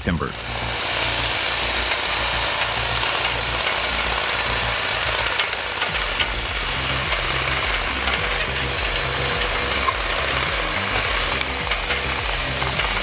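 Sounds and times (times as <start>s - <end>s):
small engine running at low revs: 0.0s - 13.0s.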